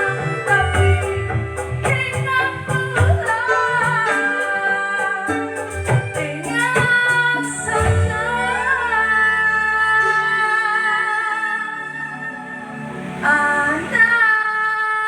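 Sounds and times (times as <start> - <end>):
instrumental backing music: 0.0 - 15.0
woman singing: 0.0 - 15.0.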